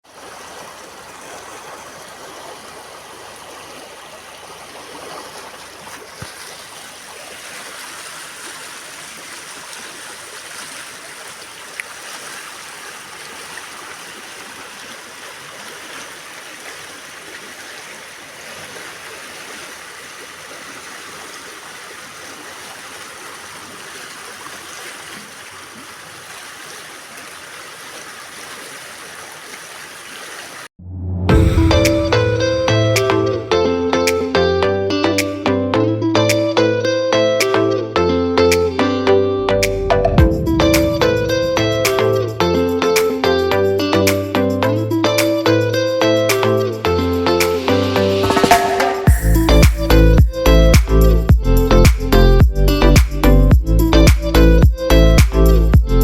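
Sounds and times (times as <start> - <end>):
stream water rushing: 0.0 - 30.7, 36.2 - 51.3.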